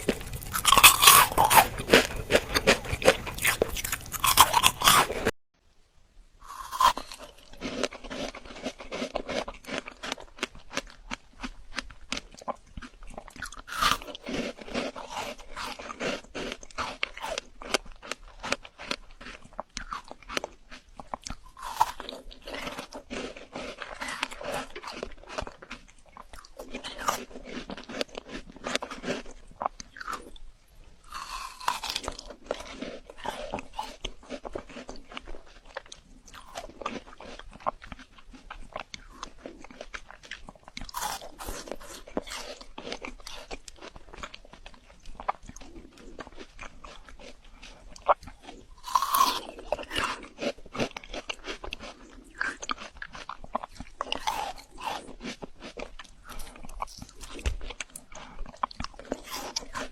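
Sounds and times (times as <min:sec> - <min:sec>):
frozen fruit crunching: 0:00.0 - 0:05.4, 0:06.4 - 0:30.4, 0:31.0 - 0:59.9.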